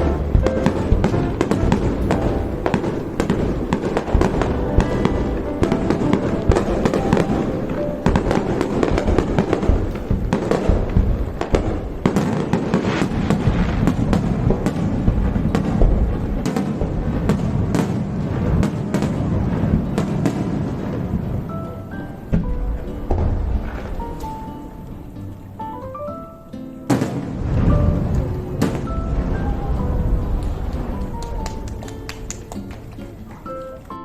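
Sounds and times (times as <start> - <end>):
music playing: 0.0 - 13.8, 20.3 - 34.0
fireworks booming and crackling: 0.0 - 26.2, 26.8 - 34.0.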